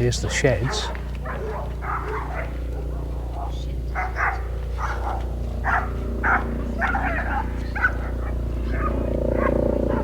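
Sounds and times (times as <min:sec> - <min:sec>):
dog barking: 0:00.1 - 0:10.0.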